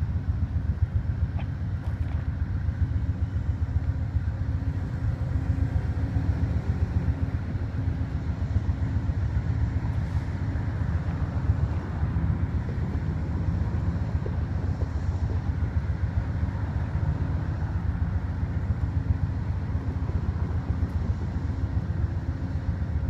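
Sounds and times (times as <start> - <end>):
vehicle engine low rumble: 0.0 - 23.0.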